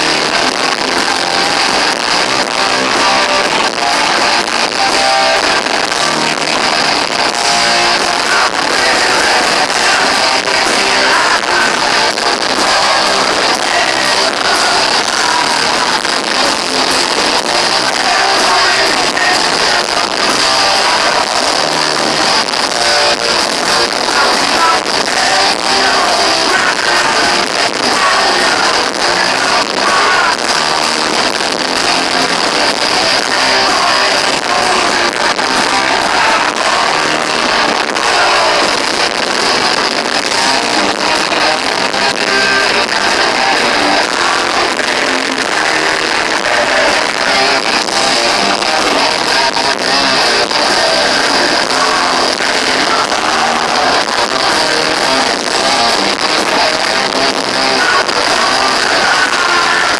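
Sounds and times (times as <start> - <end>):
distorted electric guitars: 0.0 - 59.9
drums: 0.0 - 59.9
person singing: 0.0 - 59.9.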